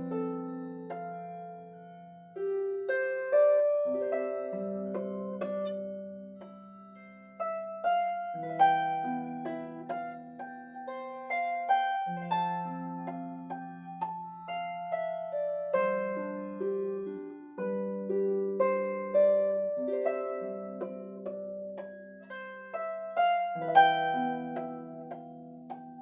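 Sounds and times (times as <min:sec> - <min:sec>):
harp playing slow melody: 0:00.0 - 0:26.0.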